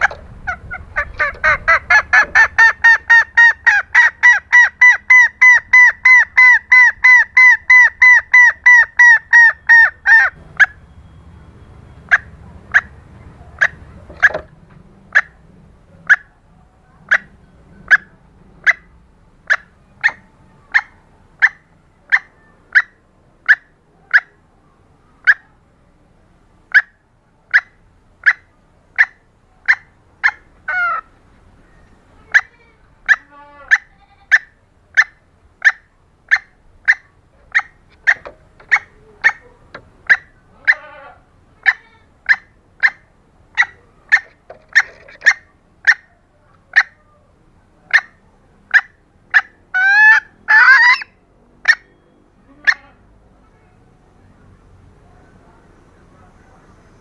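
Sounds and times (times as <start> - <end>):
junglefowl calling: 0.0 - 11.1, 11.9 - 14.5, 15.1 - 15.4, 16.0 - 16.3, 17.0 - 24.4, 25.2 - 25.5, 26.7 - 47.2, 47.9 - 53.1.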